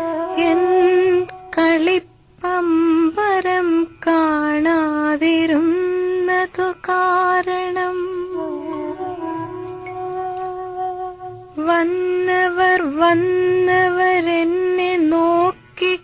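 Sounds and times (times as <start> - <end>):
woman humming a melody: 0.0 - 3.9, 5.3 - 16.0.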